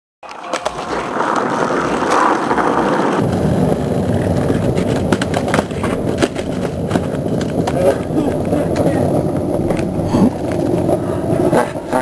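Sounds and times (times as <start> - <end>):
skateboard wheels rolling on asphalt: 0.2 - 12.0.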